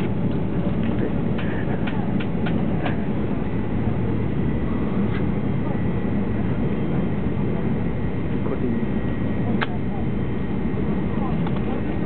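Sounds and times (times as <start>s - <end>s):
train rumble inside cabin: 0.0s - 12.0s.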